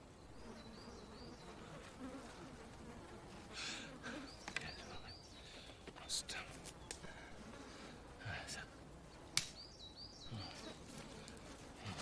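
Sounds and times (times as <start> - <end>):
flying insect buzzing: 0.3 - 5.7, 6.5 - 12.0.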